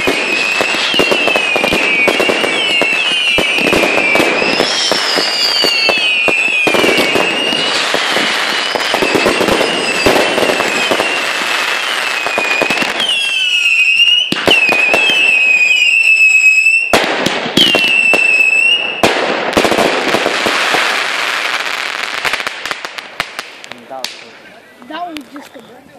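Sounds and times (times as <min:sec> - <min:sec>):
fireworks whistling: 0:00.0 - 0:24.3
fireworks bangs and crackling: 0:00.0 - 0:25.6.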